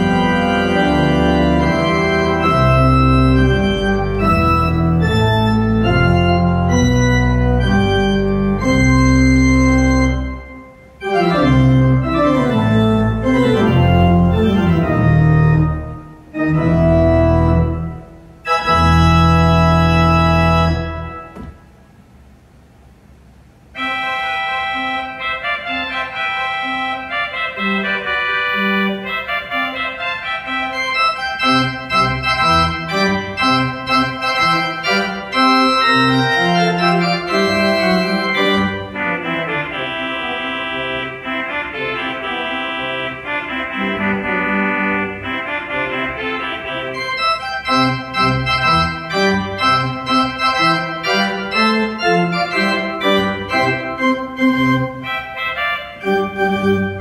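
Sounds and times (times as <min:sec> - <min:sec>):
church organ playing chords: 0:00.0 - 0:21.8, 0:23.7 - 0:57.0.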